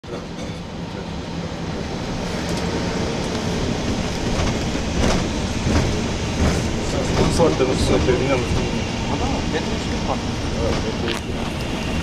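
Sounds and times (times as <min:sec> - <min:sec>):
vehicle rumbling and rattling: 0:00.0 - 0:12.0.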